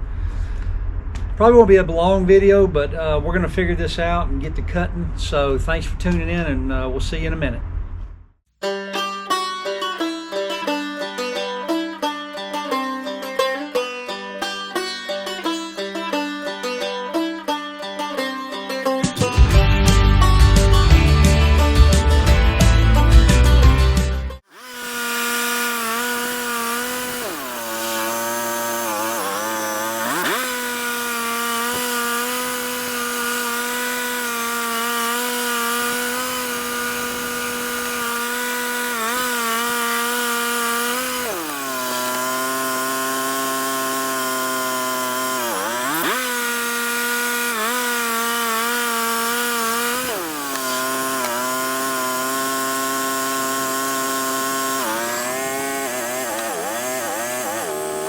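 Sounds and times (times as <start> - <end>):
chainsaw cutting wood: 9.0 - 58.0.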